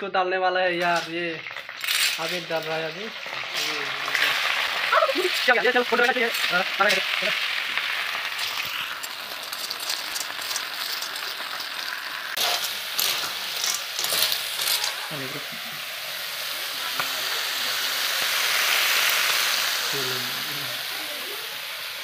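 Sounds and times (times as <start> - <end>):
snails sizzling in a pan: 0.7 - 22.0.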